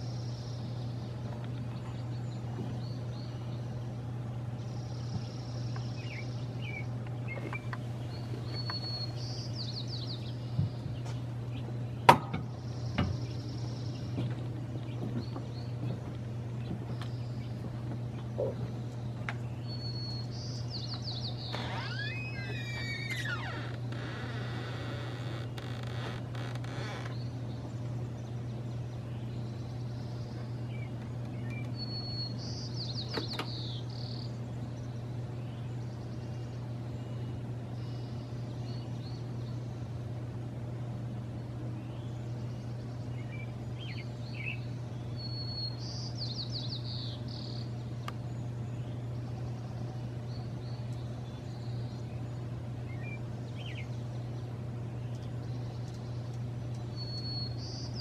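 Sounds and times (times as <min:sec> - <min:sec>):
songbird singing with buzzy trill: 0:00.0 - 0:58.0
steady low hum: 0:00.0 - 0:58.0.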